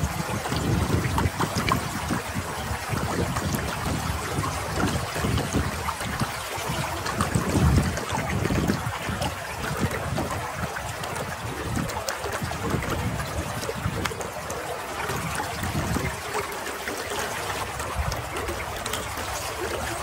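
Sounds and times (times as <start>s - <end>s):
stream trickling over rocks: 0.0s - 20.0s.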